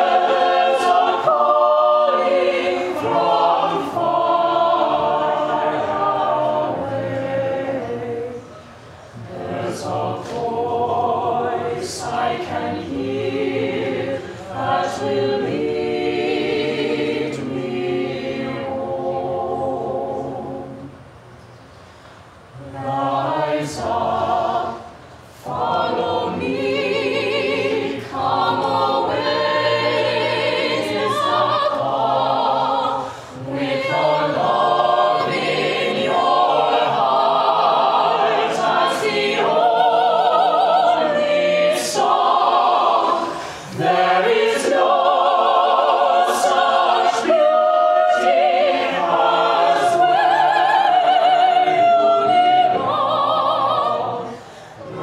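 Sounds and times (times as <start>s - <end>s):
mixed choir singing a cappella: 0.0s - 21.2s, 22.4s - 55.0s.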